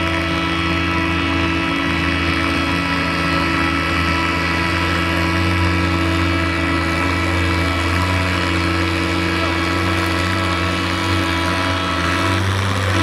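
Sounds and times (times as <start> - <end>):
tractor engine under heavy load: 0.0 - 13.0.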